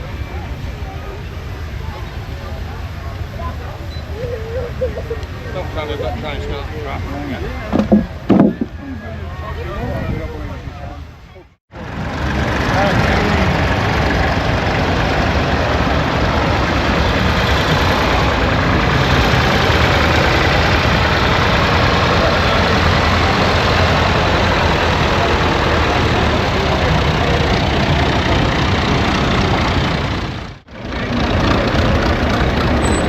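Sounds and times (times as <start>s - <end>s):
engine running: 0.0s - 10.9s, 11.7s - 33.0s.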